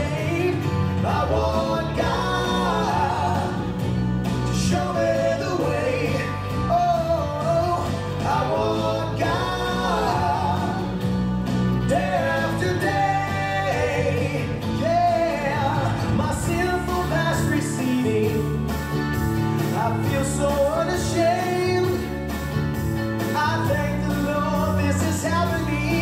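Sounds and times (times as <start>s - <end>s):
person singing: 0.0s - 3.8s, 4.4s - 11.1s, 11.9s - 18.8s, 19.7s - 22.2s, 23.3s - 26.0s
instrumental backing music: 0.0s - 26.0s.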